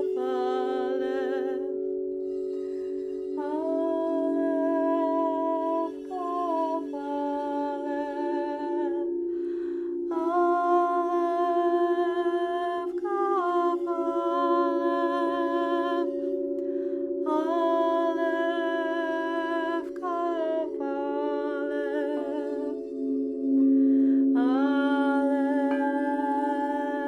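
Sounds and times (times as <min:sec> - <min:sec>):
person singing wordless long notes: 0:00.0 - 0:27.0
singing bowl ringing: 0:00.0 - 0:27.0.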